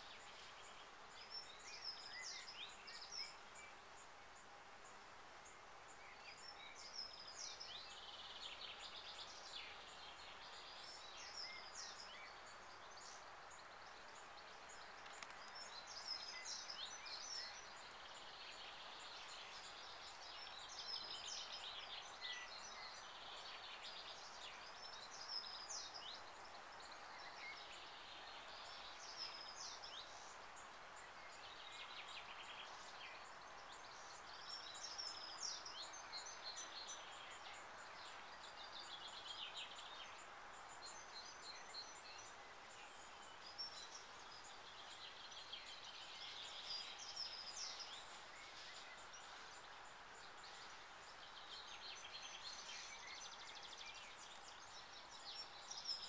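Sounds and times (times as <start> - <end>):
faint background hiss: 0.0 - 56.0
songbirds chirping and trilling: 0.0 - 56.0.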